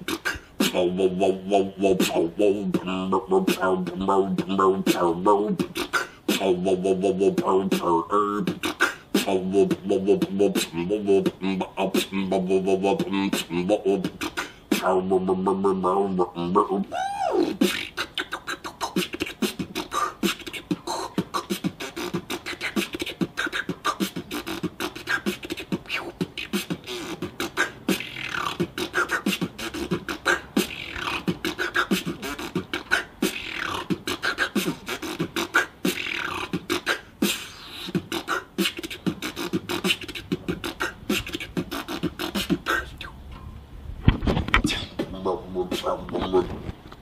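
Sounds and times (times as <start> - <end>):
man beatboxing: 0.0 - 43.3, 44.5 - 46.8.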